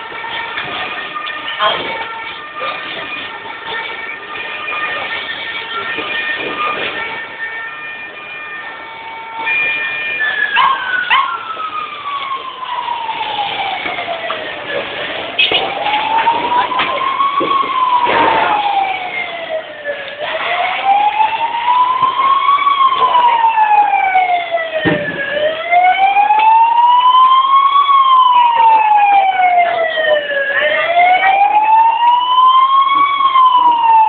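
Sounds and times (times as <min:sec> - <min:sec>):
emergency siren wailing: 0:00.0 - 0:34.0.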